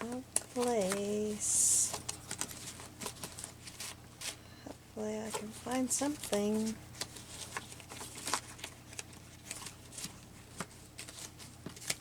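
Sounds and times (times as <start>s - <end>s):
paper rustling: 0.1s - 4.4s, 5.2s - 12.0s.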